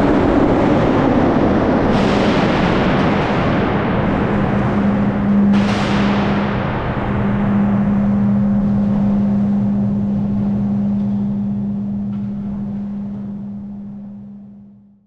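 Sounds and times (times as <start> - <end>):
roar of high wind from fans: 0.0 - 14.8
constant low hum: 0.0 - 15.0.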